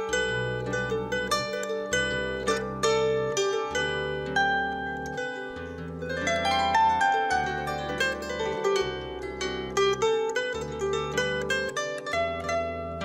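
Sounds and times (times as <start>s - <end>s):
harp melody: 0.0s - 13.0s.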